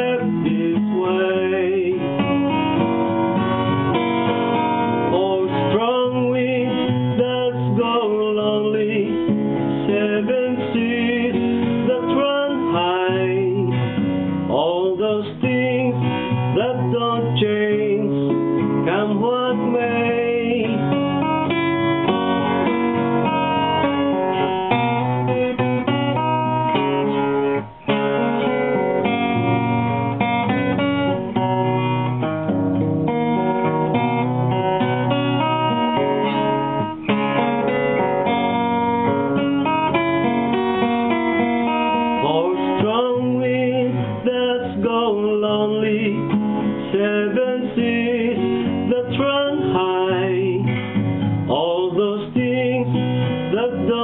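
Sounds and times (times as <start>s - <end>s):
acoustic guitar strummed and picked: 0.0s - 54.0s.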